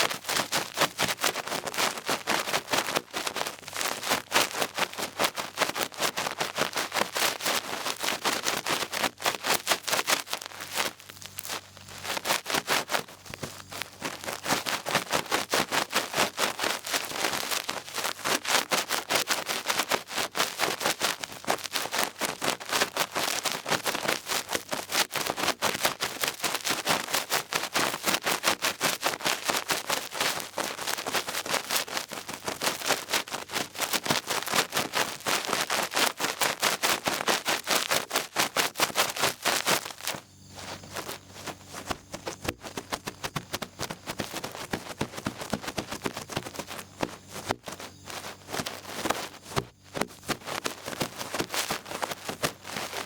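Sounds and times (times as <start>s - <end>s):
stick scratching against microphone: 0.0s - 53.0s.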